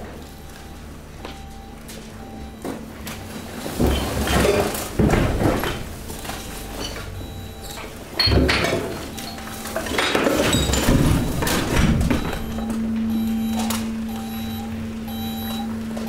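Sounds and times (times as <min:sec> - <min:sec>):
garbage crunching in press: 0:00.0 - 0:16.0
steady hum: 0:00.0 - 0:16.0.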